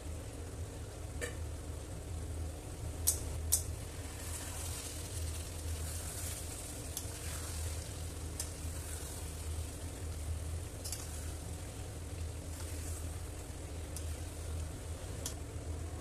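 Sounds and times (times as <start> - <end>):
steady low hum: 0.0 - 16.0
curry sizzling: 3.0 - 16.0.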